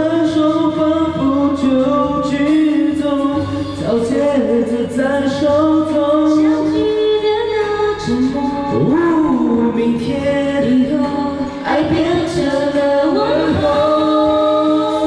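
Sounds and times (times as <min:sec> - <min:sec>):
voices singing pop ballad in harmony: 0:00.0 - 0:15.0.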